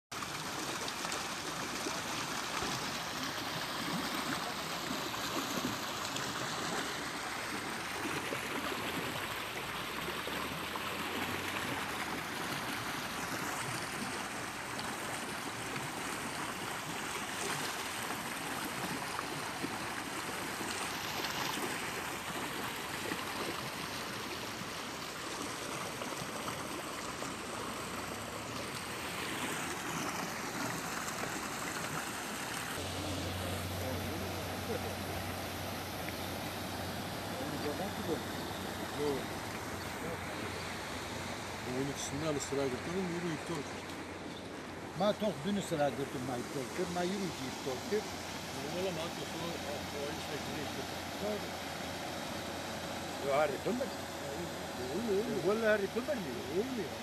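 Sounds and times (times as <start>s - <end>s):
floodwater rushing: 0.1s - 57.0s.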